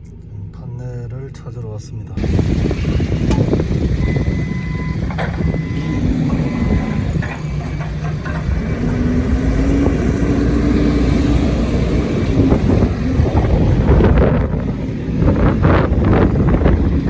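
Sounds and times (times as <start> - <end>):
vehicle engine running: 2.2 - 17.0.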